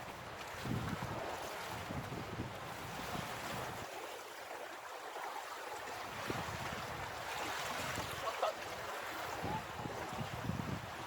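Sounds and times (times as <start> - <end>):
wind buffeting microphone: 0.0 - 3.9, 6.0 - 11.0
sea water washing around rocks: 0.0 - 11.0.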